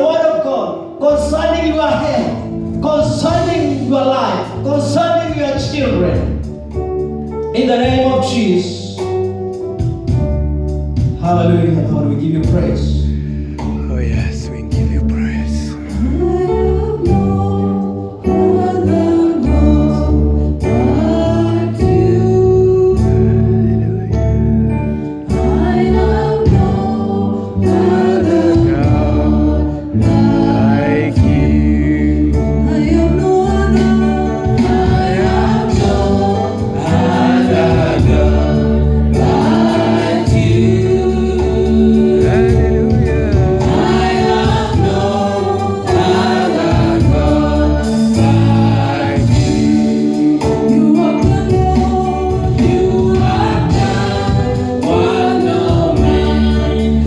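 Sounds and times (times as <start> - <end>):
gospel choir singing: 0.0 - 7.1, 11.8 - 57.0.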